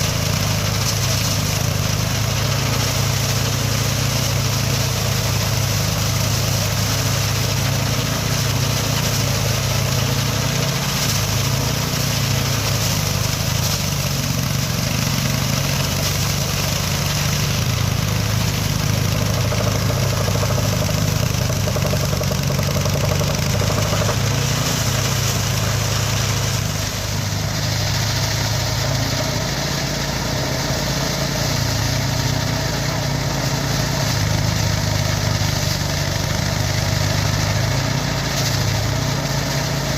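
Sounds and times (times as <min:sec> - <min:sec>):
threshing machine engine running: 0:00.0 - 0:39.9.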